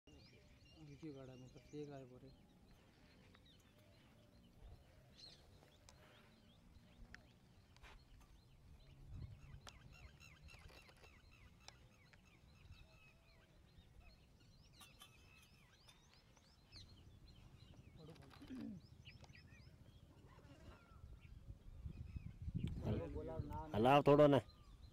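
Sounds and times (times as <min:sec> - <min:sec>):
small birds chirping: 0:00.1 - 0:24.9.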